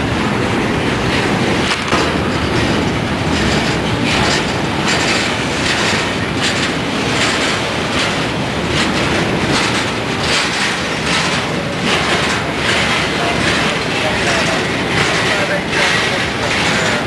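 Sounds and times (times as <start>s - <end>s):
steel wheels rumbling on rail: 0.0s - 17.0s
wheels clacking over rail joints: 0.0s - 17.0s.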